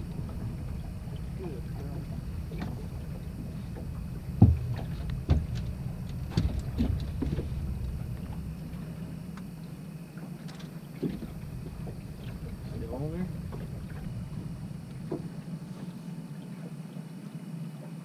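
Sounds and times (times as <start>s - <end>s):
knocks and thumps on boat deck: 0.0s - 16.1s
steady low rumble: 0.0s - 17.8s.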